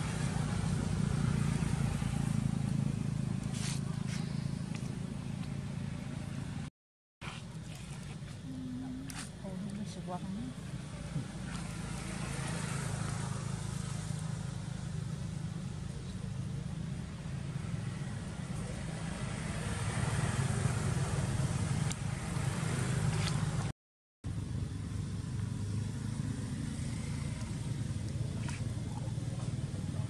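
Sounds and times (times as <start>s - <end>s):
cars passing: 0.0s - 6.6s, 9.9s - 23.7s, 24.4s - 30.0s
motorbikes passing: 0.0s - 6.7s, 8.4s - 23.7s, 24.3s - 30.0s.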